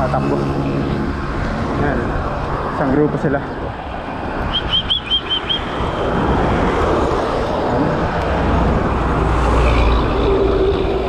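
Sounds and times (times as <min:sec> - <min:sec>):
bicycle road noise: 0:00.0 - 0:11.0
low traffic rumble: 0:00.0 - 0:11.0
wind rushing over microphone: 0:00.0 - 0:11.0.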